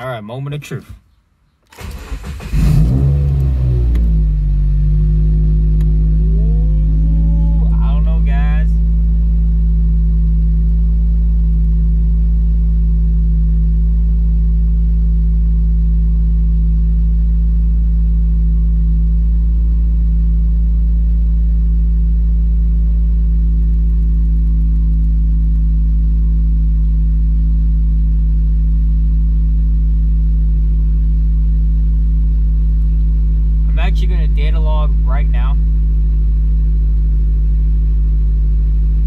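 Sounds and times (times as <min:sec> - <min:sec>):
car engine idling: 0:01.8 - 0:39.0.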